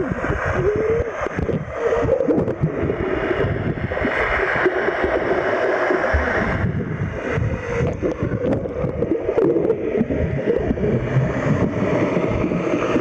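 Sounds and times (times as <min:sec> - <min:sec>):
pool water churning and gurgling: 0:00.0 - 0:13.0.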